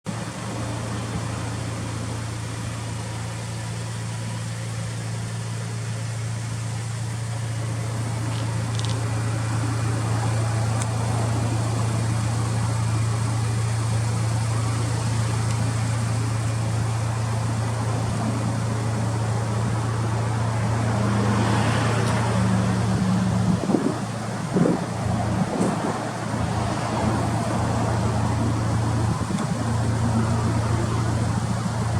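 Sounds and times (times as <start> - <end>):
car engine running: 0.0 - 31.9.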